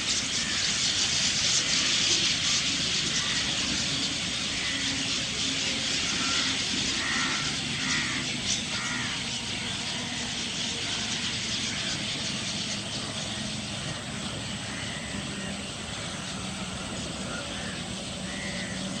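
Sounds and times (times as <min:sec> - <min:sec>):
starlings twittering: 0:00.0 - 0:19.0
low engine hum: 0:00.1 - 0:19.0.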